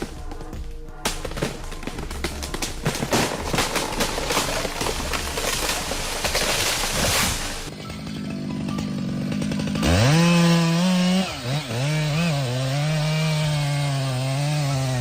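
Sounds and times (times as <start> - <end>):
chainsaw revving and cutting: 1.2 - 15.0.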